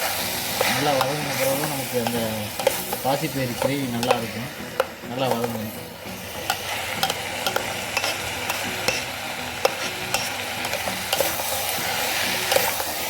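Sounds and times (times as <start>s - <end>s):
utensil scraping against pan: 0.0s - 13.0s
vegetables sizzling in hot oil: 0.0s - 13.0s.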